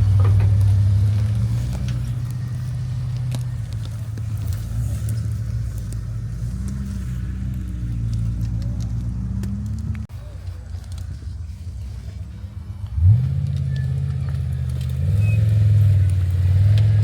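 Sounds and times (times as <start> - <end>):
vehicle engine running at low revs: 0.0 - 17.0.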